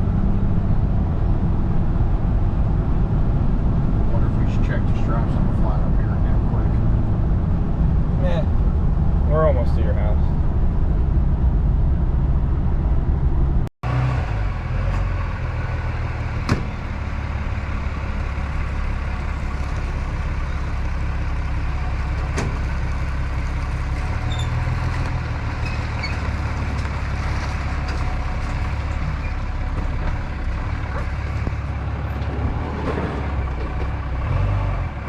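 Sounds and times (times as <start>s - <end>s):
diesel engine rumble: 0.0s - 35.0s
road and cab noise: 0.0s - 35.0s.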